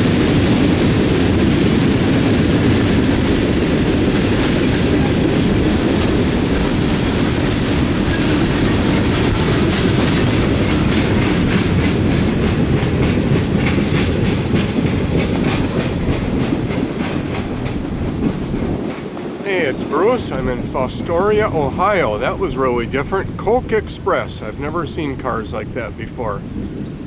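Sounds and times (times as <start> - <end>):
freight train rolling past: 0.0 - 27.0
wheels clicking over track: 0.0 - 27.0.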